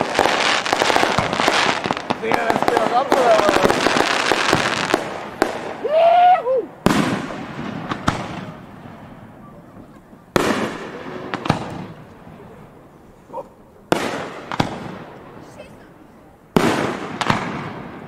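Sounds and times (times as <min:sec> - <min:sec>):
firework shells booming: 0:00.0 - 0:05.9, 0:06.7 - 0:13.1, 0:13.9 - 0:15.6, 0:16.5 - 0:18.0
sharp firework crack: 0:00.0 - 0:15.9, 0:16.5 - 0:18.0.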